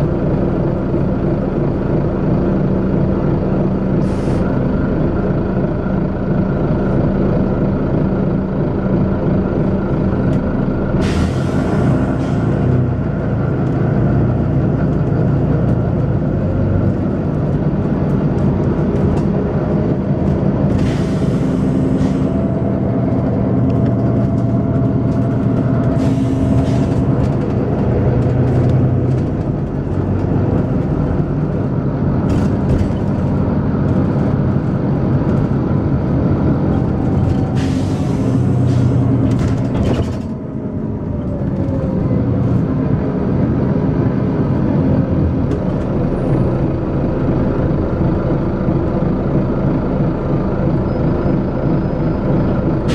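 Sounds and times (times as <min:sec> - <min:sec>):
bus diesel engine droning: 0:00.0 - 0:52.9.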